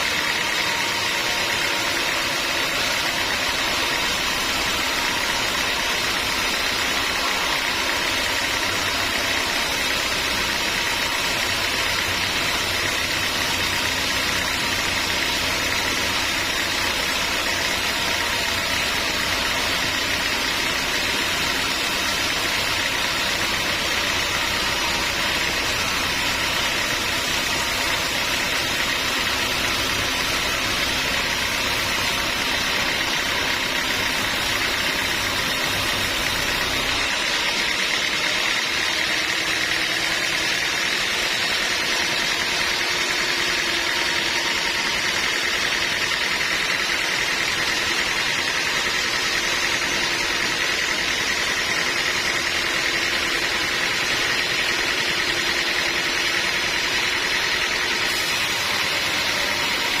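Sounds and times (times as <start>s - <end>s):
sawmill machinery drone: 0.0s - 60.0s.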